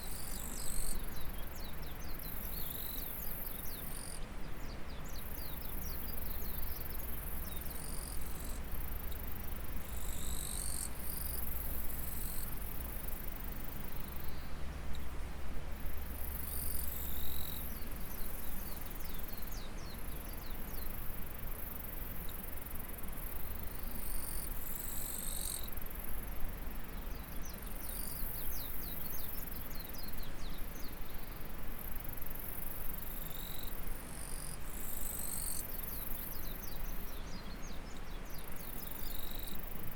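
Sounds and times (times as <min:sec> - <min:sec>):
insects buzzing and chirping: 0:00.0 - 0:04.2, 0:05.0 - 0:14.5, 0:15.8 - 0:37.5, 0:38.2 - 0:39.9.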